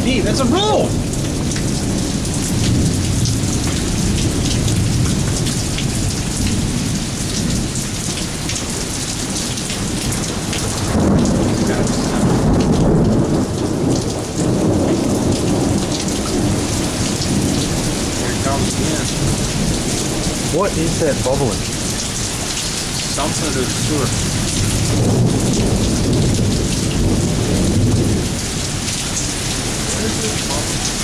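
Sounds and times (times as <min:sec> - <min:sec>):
heavy rain splashing: 0:00.0 - 0:31.0.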